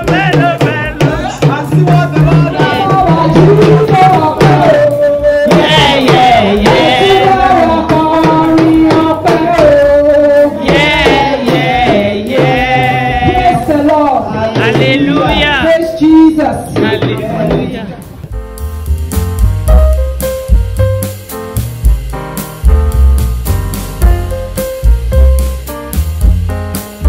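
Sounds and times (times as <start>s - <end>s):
drums: 0.0s - 27.0s
music with singing voice: 0.0s - 27.0s.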